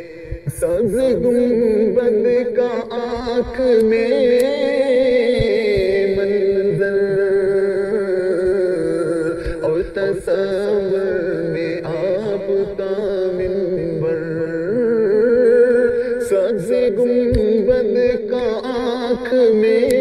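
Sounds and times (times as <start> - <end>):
person singing wordless long notes: 0.0 - 20.0.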